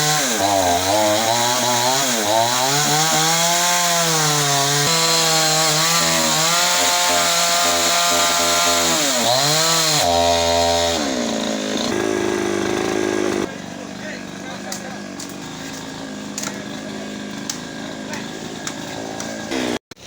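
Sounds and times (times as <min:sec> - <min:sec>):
chainsaw cutting into tree: 0:00.0 - 0:20.0.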